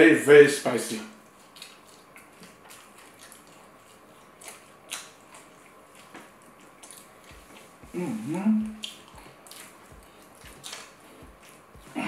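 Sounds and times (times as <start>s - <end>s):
soft chewing: 1.2s - 12.0s
wet mouth clicks: 1.5s - 12.0s.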